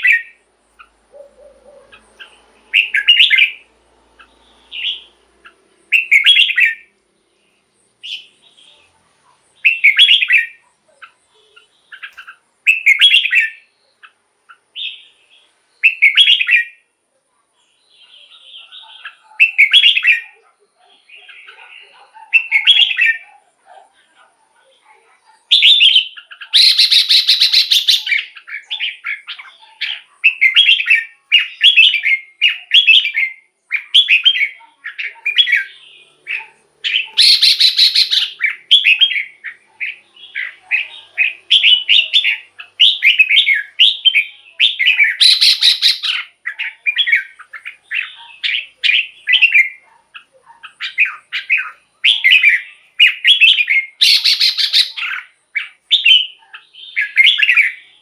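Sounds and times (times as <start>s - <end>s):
bird whistled song phrases: 0.0s - 5.2s, 5.9s - 6.9s, 9.6s - 10.6s, 11.4s - 14.0s, 15.8s - 16.8s, 18.0s - 20.4s, 21.0s - 23.2s, 25.5s - 58.0s
harsh buzzy bird chatters: 0.0s - 7.0s, 18.0s - 58.0s.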